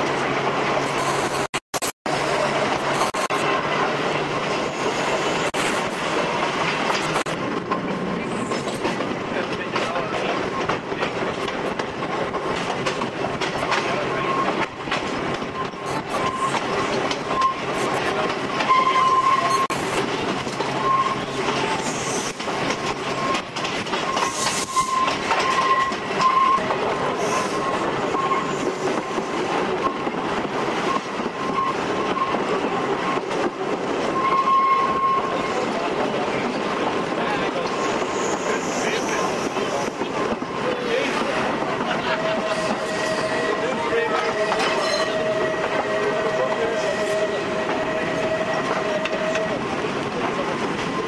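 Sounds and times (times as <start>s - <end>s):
tram wheels clattering on rails: 2.1s - 51.0s.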